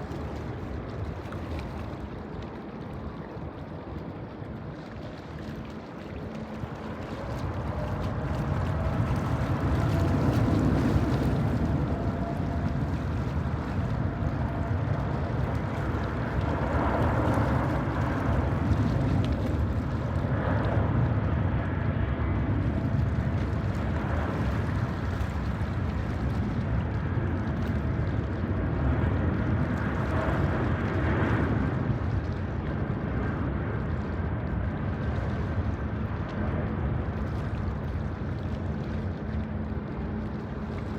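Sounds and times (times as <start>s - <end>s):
distant jet engine drone: 0.0s - 40.9s
wind on microphone: 0.0s - 40.9s.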